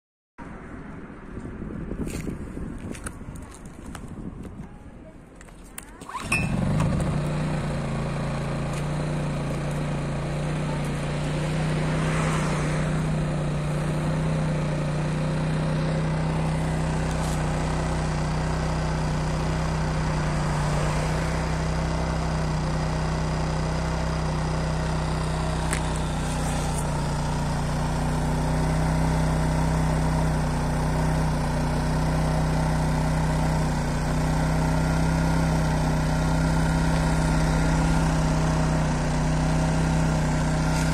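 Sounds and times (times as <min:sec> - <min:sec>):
petrol generator running: 0:06.0 - 0:12.0, 0:13.4 - 0:40.9.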